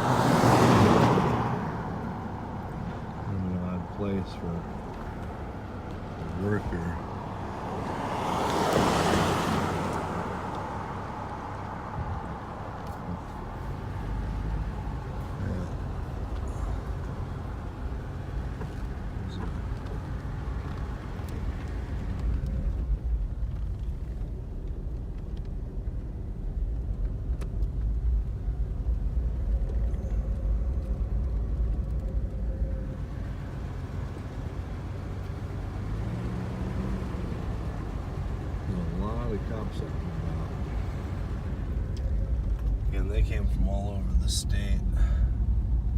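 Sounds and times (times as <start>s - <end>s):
car engine and tyre rumble: 0.0s - 45.9s.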